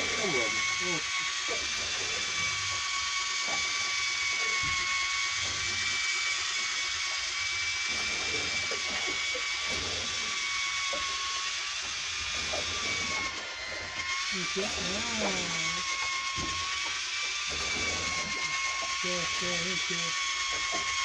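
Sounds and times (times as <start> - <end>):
electric fishing reel whining: 0.0 - 21.0.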